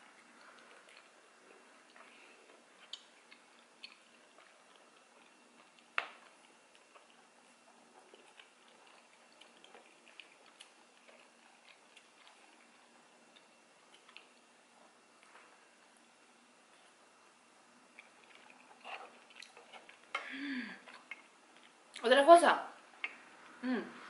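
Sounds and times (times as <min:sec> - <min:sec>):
soft chewing: 0:00.0 - 0:22.0, 0:22.8 - 0:23.6.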